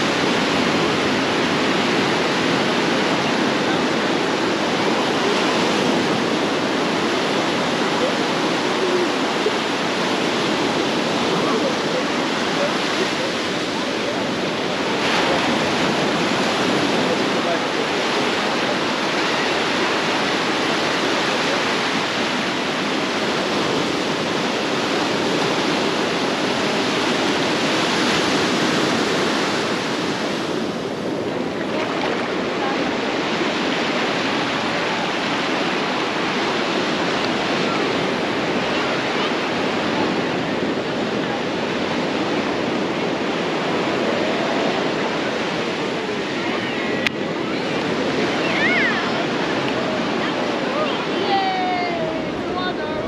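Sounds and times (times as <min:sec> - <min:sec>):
sea waves washing ashore: 0:00.0 - 0:53.0.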